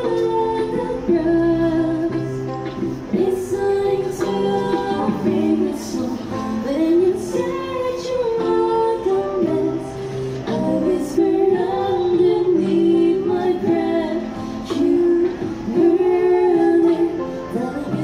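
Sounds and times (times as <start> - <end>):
woman singing into microphone: 0.0 - 18.0.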